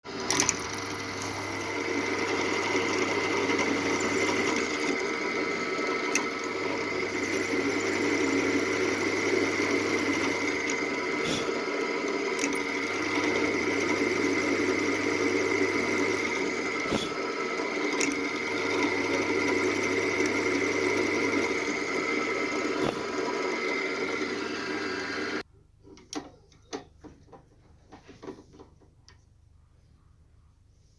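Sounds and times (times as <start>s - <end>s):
small motor whining: 0.1s - 25.4s.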